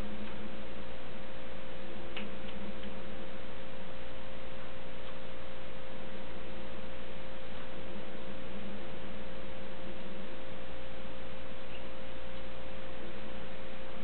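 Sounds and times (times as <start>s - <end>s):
high-pitched hum tone: 0.0s - 14.0s
low hum: 0.0s - 14.0s.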